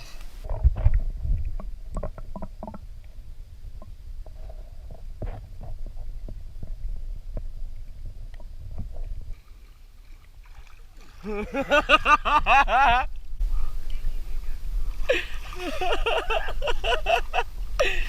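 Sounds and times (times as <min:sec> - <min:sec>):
muffled underwater rumble: 0:00.0 - 0:09.9, 0:12.7 - 0:18.0.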